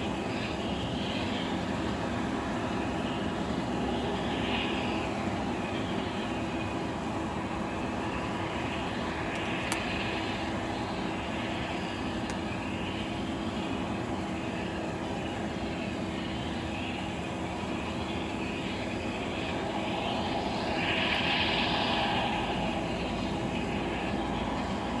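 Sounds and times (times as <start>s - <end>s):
jet engine droning: 0.0s - 25.0s.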